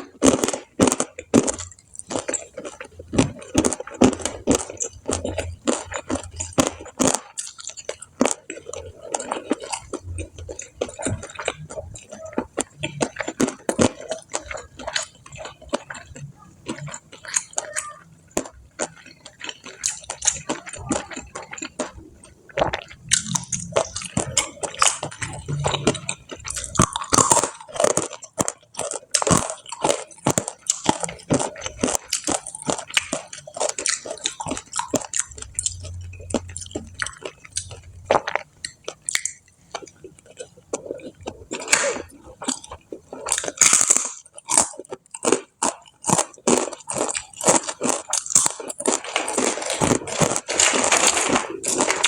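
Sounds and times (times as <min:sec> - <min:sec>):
chewing crunchy fried food: 0:00.0 - 0:52.0.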